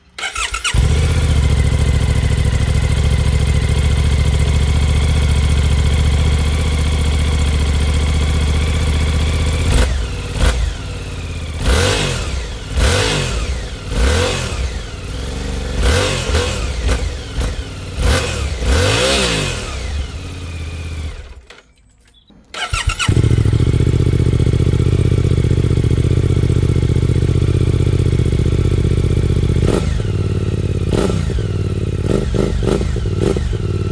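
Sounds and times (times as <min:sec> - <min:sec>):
motorcycle engine idling and revving: 0:00.0 - 0:21.6, 0:22.5 - 0:33.9.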